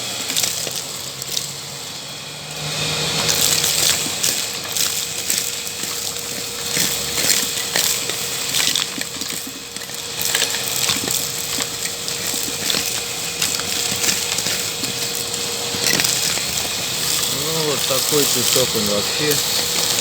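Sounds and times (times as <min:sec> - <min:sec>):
pebbles rattling through hose: 0:00.0 - 0:20.0
vacuum cleaner whine: 0:00.0 - 0:20.0.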